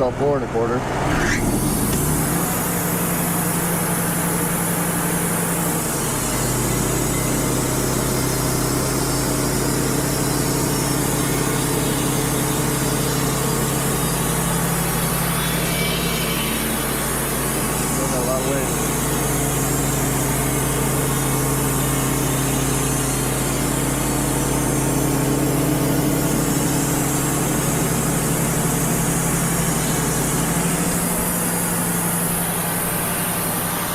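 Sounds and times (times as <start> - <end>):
sawmill diesel engine running: 0.0 - 33.9
band blade sawing through log: 0.8 - 33.8.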